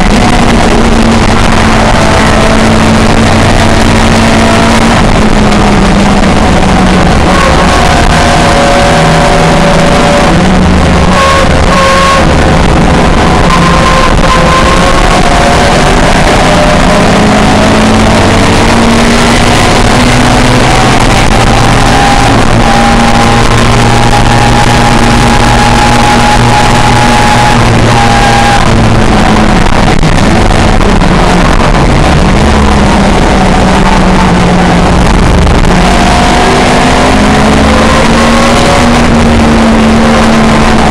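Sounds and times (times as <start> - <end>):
racing car engine at high revs: 0.0 - 40.9.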